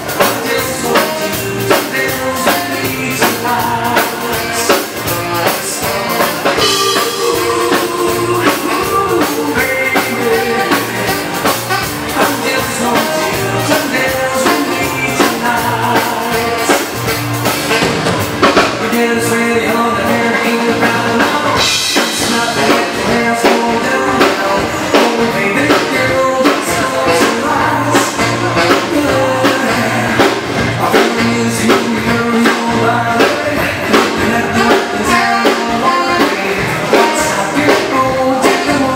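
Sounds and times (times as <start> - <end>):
dance band playing: 0.0 - 38.9
person singing: 0.0 - 38.9.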